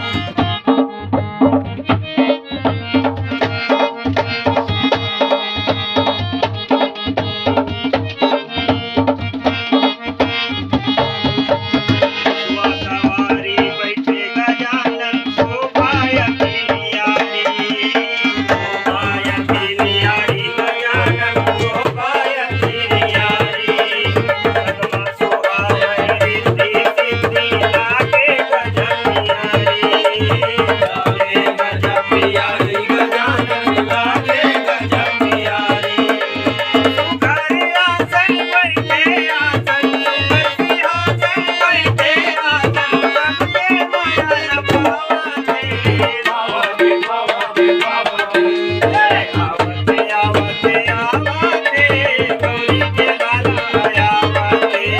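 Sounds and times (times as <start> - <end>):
instrumental music with tabla: 0.0 - 54.9.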